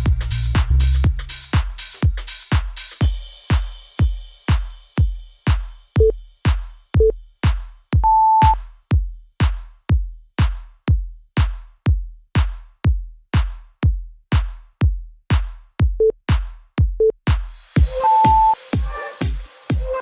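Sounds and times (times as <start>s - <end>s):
kick-drum beat: 0.0s - 20.0s.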